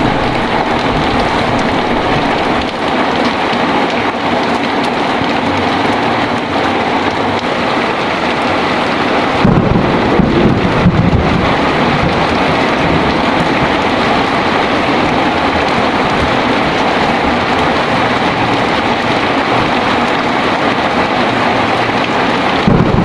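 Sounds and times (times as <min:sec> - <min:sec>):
heavy rain pouring: 0:00.0 - 0:23.0
thunder rumbling: 0:00.0 - 0:23.0.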